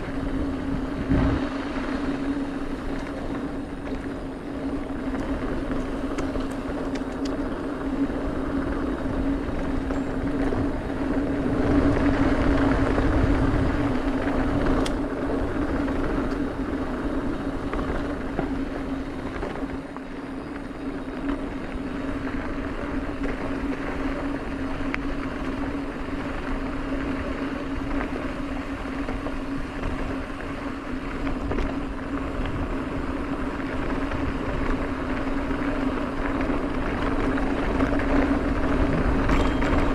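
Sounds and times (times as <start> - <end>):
bike tyres on packed dirt: 0.0 - 39.9
steady hum: 0.0 - 39.9.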